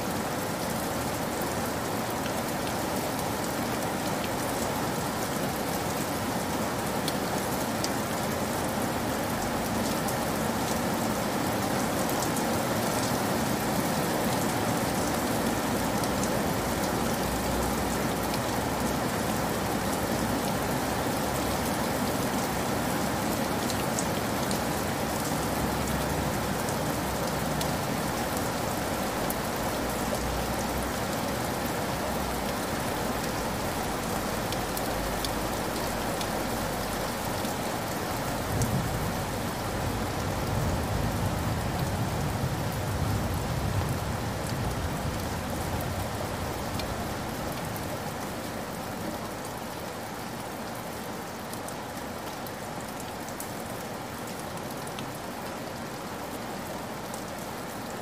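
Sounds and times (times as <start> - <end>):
heavy rain on a hard surface: 0.0 - 58.0.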